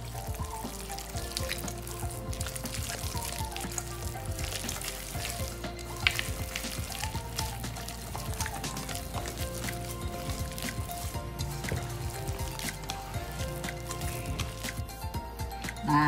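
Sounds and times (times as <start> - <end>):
hand kneading wet paste: 0.0 - 15.9.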